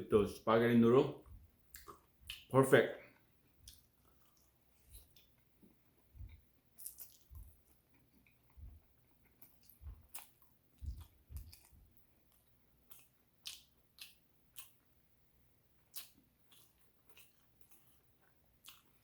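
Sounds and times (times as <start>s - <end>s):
wet chewing: 1.3s - 2.5s, 3.1s - 14.9s, 15.8s - 19.0s.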